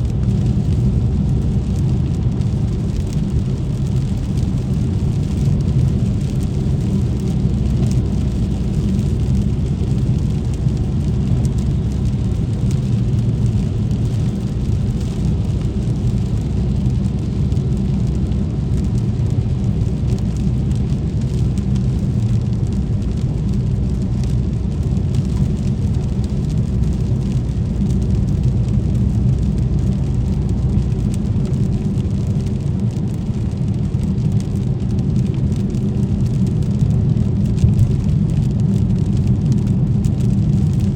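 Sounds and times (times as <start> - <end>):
car engine and tyres rumbling: 0.0 - 40.9
rain: 0.0 - 40.9.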